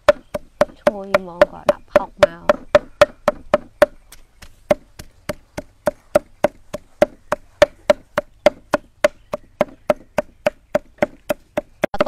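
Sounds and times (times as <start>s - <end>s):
cleaver chopping on wooden block: 0.0s - 12.0s.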